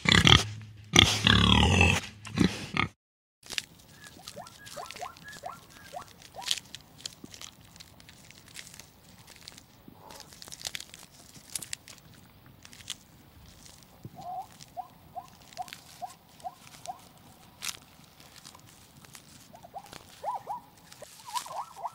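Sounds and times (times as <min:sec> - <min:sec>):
grass being cropped: 0:00.0 - 0:02.8, 0:03.4 - 0:21.9
hooves shifting on ground: 0:03.4 - 0:21.9.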